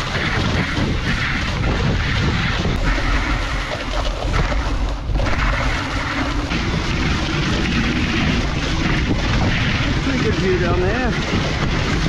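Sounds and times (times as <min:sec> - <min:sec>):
sled runners sliding over snow: 0:00.0 - 0:12.0
wind on microphone: 0:00.0 - 0:12.0.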